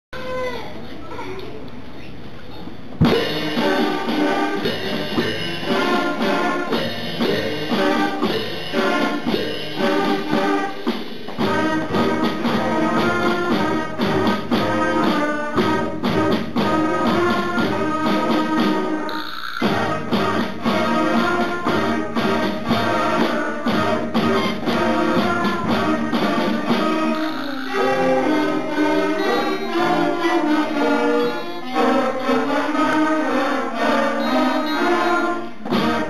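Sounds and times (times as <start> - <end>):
school band playing: 2.8 - 36.0.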